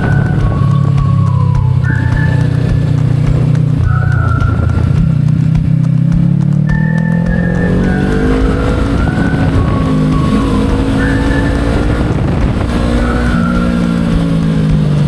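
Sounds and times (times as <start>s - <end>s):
background music: 0.0s - 15.0s
motorcycle engine: 0.0s - 15.0s
wind noise: 0.0s - 15.0s.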